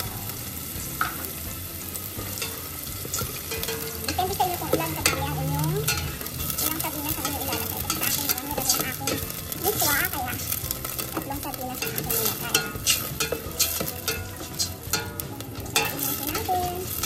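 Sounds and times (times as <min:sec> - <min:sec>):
food sizzling in oil: 0:00.0 - 0:17.0
ladle scraping and tapping pot: 0:00.4 - 0:17.0.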